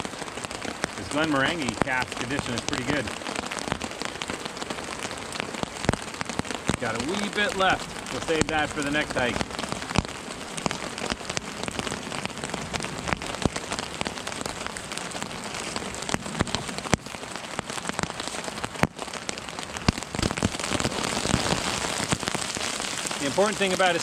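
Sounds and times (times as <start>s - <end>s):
heavy raindrop ticks: 0.0s - 24.0s
rain pattering on a tarp: 0.0s - 24.0s.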